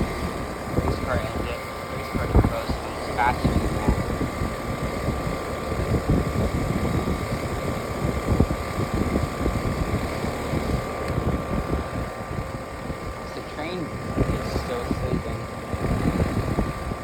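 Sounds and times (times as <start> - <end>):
air conditioner fan whirring: 0.0 - 17.0
faint steady hum: 0.0 - 17.0.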